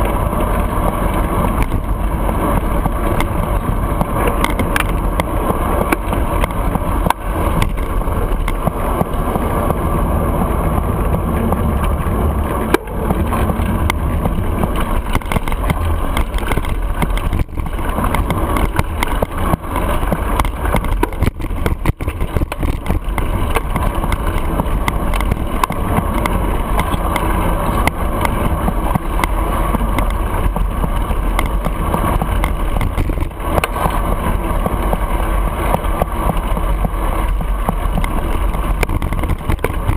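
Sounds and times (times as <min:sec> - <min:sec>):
bicycle knocks and rattles: 0:00.0 - 0:39.9
street traffic: 0:00.0 - 0:39.9
wind rushing over microphone: 0:00.0 - 0:39.9.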